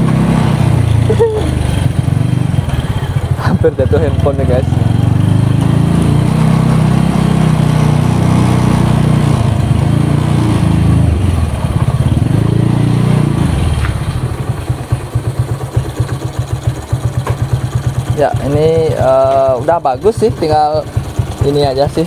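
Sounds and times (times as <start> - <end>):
single-cylinder engine running: 0.0 - 22.0.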